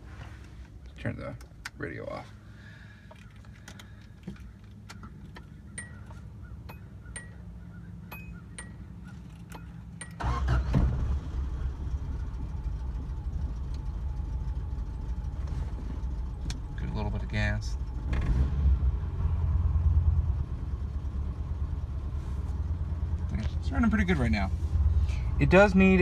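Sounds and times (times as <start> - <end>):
car engine starting and running: 0.1 - 26.0.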